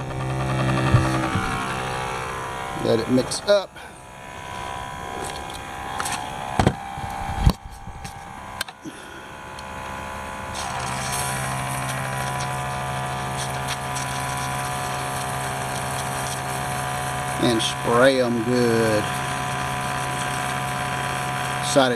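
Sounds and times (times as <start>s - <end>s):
sprayer pump humming and hissing: 0.0s - 21.9s.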